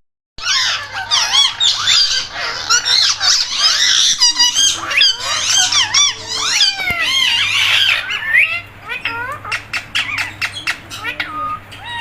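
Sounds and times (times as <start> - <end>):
parrot squeaking and chattering: 0.4 - 12.0.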